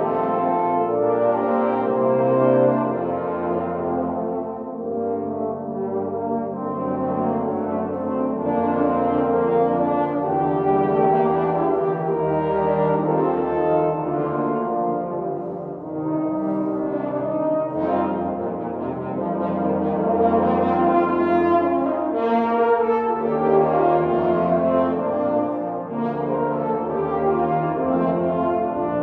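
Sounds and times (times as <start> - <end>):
trombone ensemble playing chords: 0.0 - 29.0.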